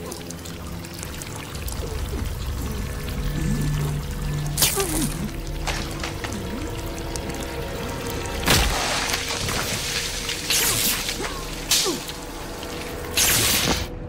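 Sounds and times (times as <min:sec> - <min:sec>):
horror music drone: 0:00.0 - 0:14.0.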